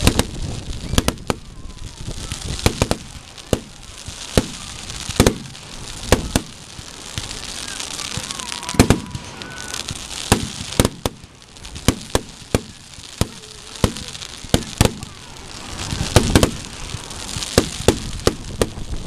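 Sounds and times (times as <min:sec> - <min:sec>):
fireworks bursting with sharp bangs: 0:00.0 - 0:19.0
high fizzing hiss: 0:00.0 - 0:19.0.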